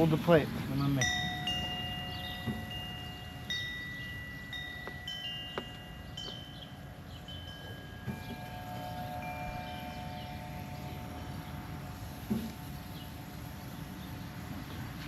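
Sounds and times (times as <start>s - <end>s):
wind chime ringing: 0.0s - 14.1s.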